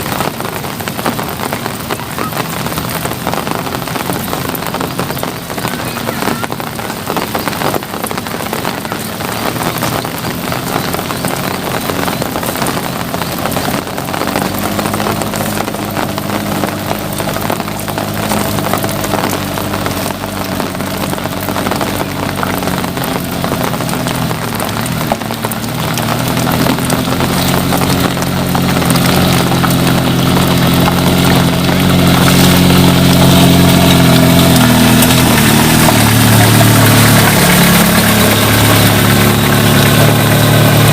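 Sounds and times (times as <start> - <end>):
rain hiss: 0.0 - 40.9
vehicle engine running: 0.0 - 40.9.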